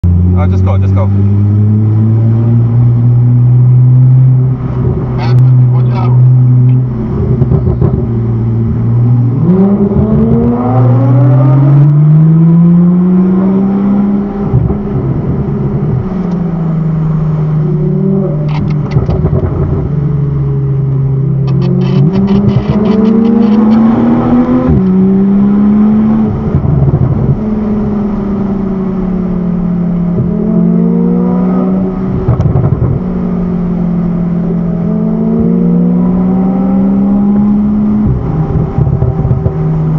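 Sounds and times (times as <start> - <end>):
car engine revving through gears: 0.1 - 39.9.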